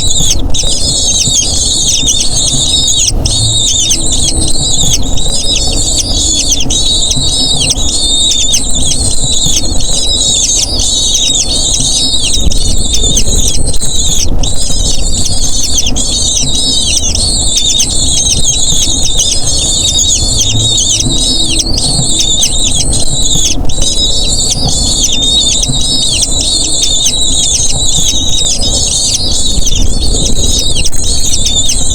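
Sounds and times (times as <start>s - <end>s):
eagle chicks squealing: 0.0s - 31.9s
low steady rumble: 0.0s - 31.9s.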